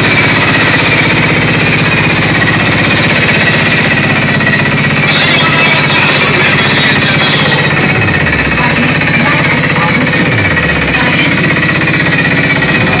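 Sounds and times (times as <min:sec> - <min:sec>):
deep falling bass sweep: 0:00.0 - 0:13.0
distorted bass pulse: 0:00.0 - 0:13.0.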